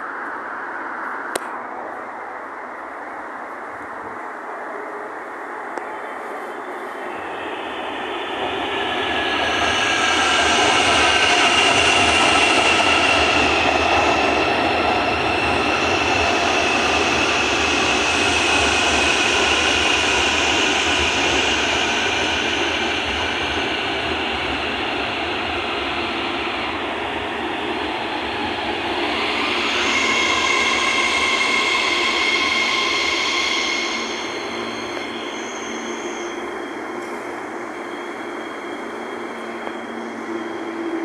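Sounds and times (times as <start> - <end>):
electric train rumble: 0.0 - 41.0
high whine: 5.0 - 41.0.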